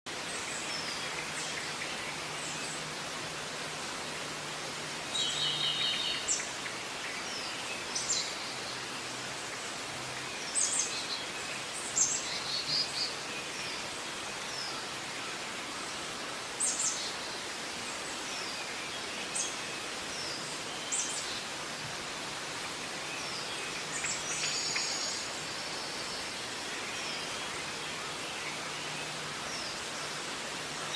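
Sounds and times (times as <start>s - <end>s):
background hiss: 0.1s - 30.9s.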